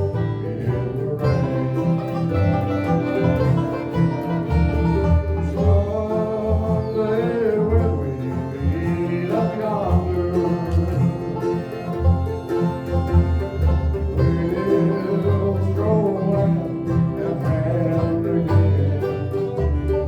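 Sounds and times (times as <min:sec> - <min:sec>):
bluegrass band playing: 0:00.0 - 0:20.0
fiddle melody: 0:00.0 - 0:20.0.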